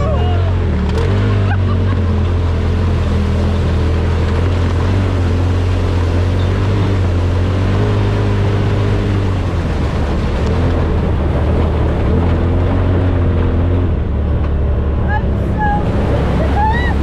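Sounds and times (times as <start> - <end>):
tyres rolling on trail: 0.0 - 17.0
utility vehicle engine droning: 0.0 - 17.0.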